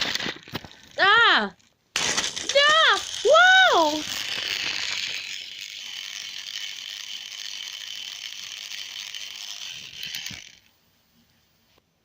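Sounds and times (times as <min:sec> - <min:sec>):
toy train motor whirring: 0:00.0 - 0:11.8.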